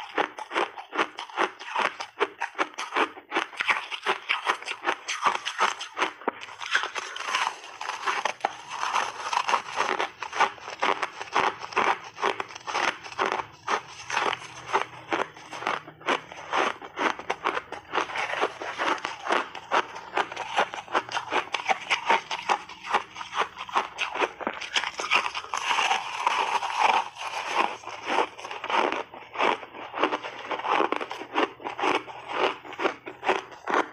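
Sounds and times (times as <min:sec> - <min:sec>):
ice being chewed: 0:00.0 - 0:33.9.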